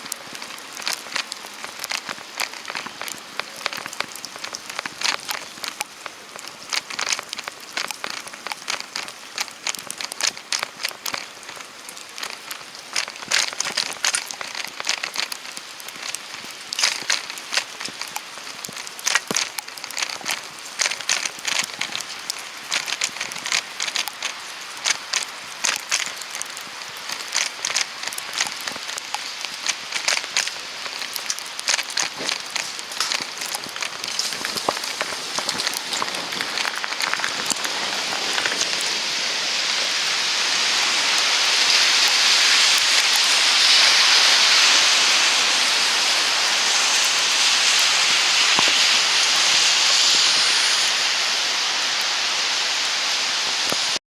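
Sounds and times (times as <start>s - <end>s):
steady hiss: 0.0s - 54.0s
wet snow pattering on surface: 0.0s - 54.0s.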